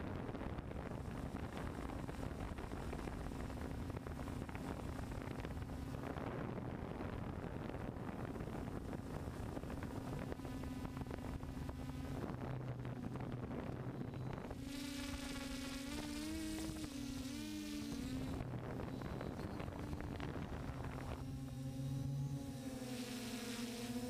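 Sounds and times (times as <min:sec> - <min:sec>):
drone motors buzzing: 0:00.1 - 0:24.0.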